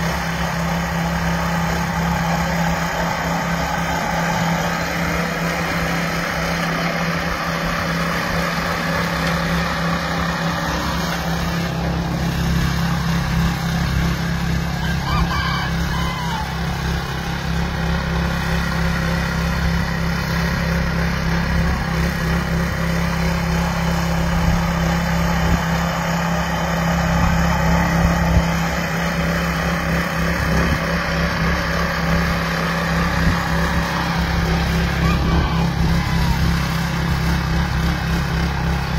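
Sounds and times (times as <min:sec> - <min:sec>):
garden tiller engine running: 0:00.0 - 0:38.9.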